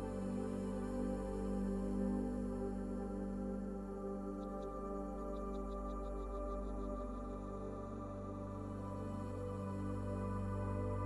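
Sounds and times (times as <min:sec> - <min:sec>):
ambient droning music: 0:00.0 - 0:11.0.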